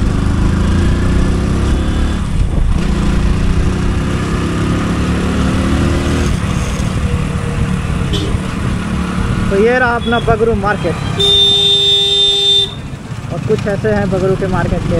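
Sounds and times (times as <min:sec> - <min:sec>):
motorcycle engine rumbling: 0:00.0 - 0:14.9.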